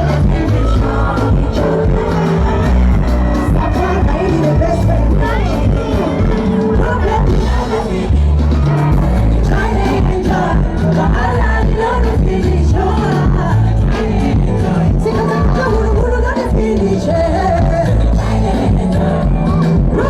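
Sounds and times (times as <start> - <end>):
faint crowd: 0.0 - 20.0
heavy bass beat: 0.0 - 20.0
person singing: 0.0 - 20.0.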